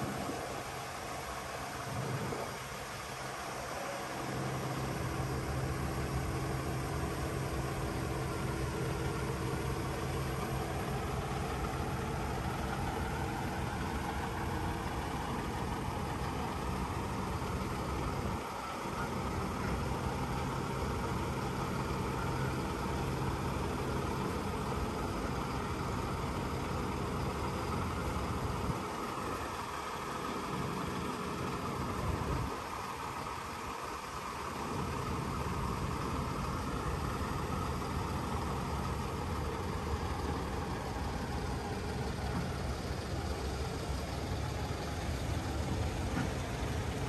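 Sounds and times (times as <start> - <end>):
diesel truck engine running: 0.0 - 47.0.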